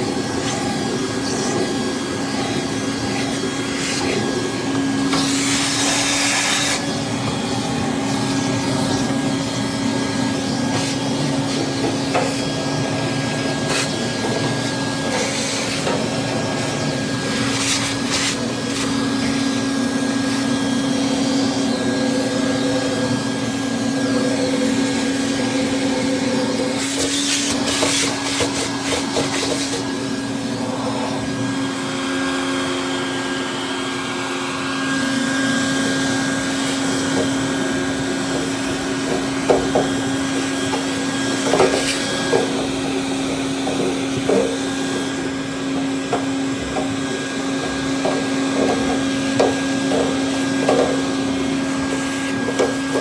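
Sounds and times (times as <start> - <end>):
small vacuum humming: 0.0 - 53.0.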